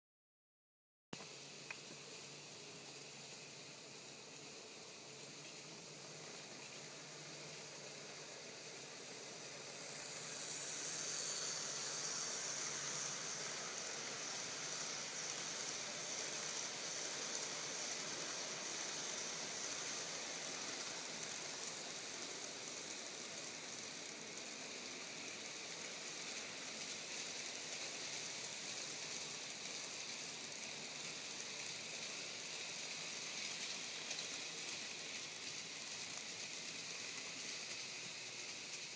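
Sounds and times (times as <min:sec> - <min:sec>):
model train wheels and motor hiss: 0:01.2 - 0:38.9.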